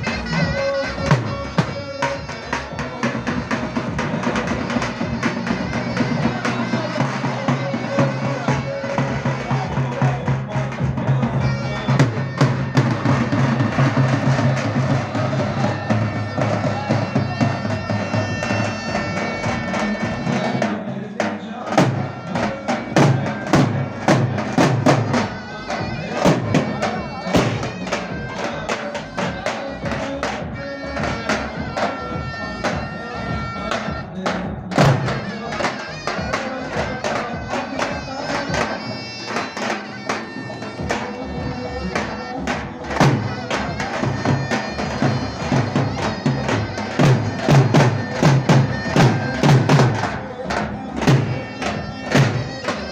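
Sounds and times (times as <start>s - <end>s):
shrill reedy pipe melody: 0.0s - 3.6s, 11.3s - 21.0s, 22.0s - 52.9s
drum beats: 0.0s - 52.9s.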